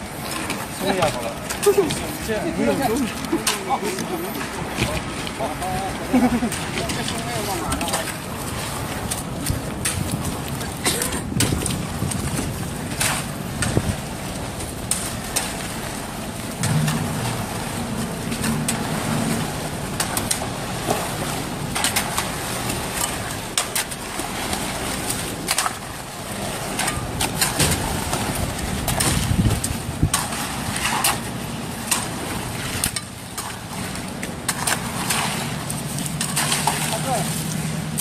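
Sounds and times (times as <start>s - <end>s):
concrete pump running: 0.0s - 38.0s
shovels scraping wet concrete: 0.0s - 38.0s.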